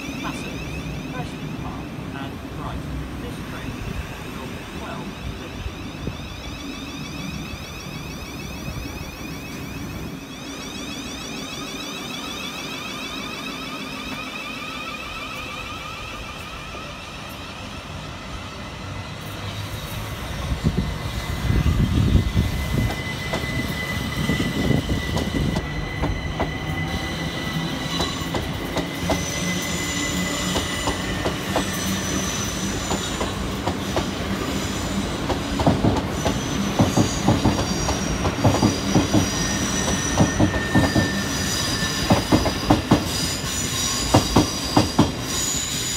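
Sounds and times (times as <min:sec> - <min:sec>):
train traction motor whine: 0:00.0 - 0:45.9
high-pitched wheel squeal: 0:05.2 - 0:18.5, 0:19.4 - 0:35.2, 0:36.1 - 0:45.9.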